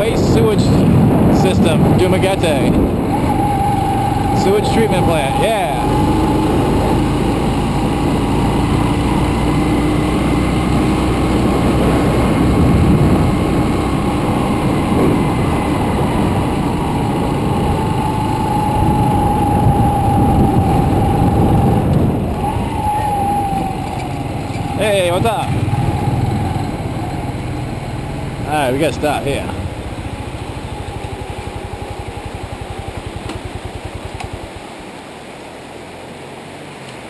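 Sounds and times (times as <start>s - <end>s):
motorbike engine running: 0.0s - 34.9s
wind and road noise: 0.0s - 37.0s.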